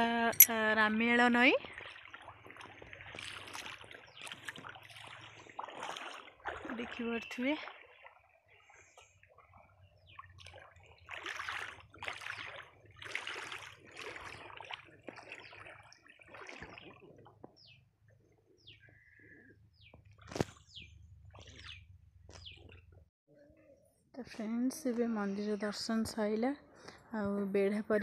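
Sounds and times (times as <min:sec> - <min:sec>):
water splashing and sloshing: 0:00.3 - 0:23.1.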